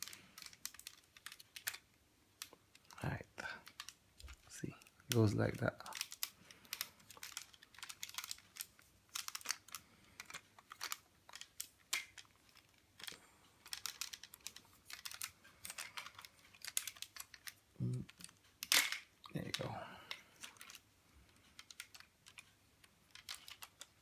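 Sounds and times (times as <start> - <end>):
plastic toy parts clicking: 0.0 - 24.0.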